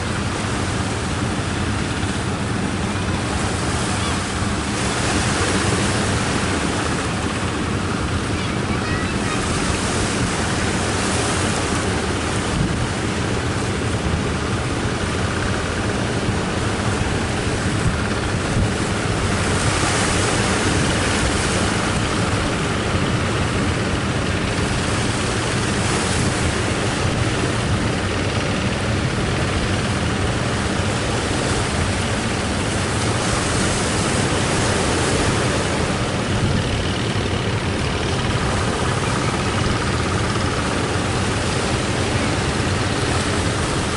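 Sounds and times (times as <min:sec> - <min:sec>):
ocean surf breaking: 0:00.0 - 0:43.9
wind buffeting microphone: 0:00.0 - 0:43.9.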